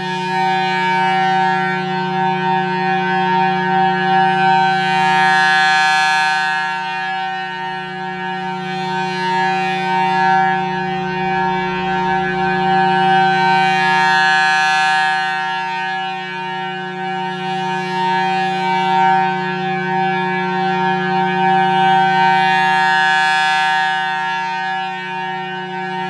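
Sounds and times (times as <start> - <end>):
rotating siren steady tone: 0.0 - 26.0.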